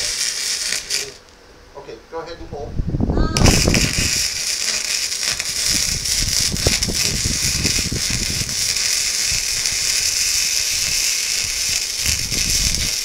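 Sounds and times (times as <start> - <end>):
welding arc crackling: 0.0 - 1.4, 3.4 - 13.0.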